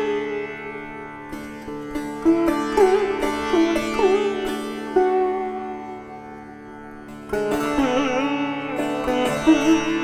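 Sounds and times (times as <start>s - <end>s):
sitar plucked notes: 0.0s - 10.0s.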